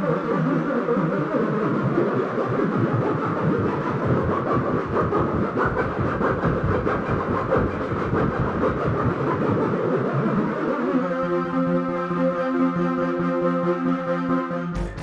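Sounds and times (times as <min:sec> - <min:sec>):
grainy crackly synthesizer: 0:00.0 - 0:15.0.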